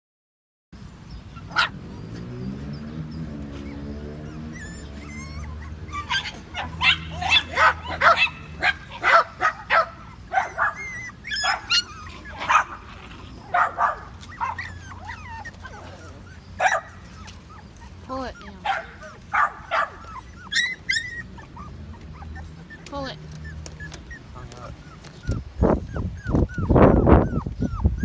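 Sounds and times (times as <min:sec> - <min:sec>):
puppies yipping and barking: 0:00.8 - 0:28.0.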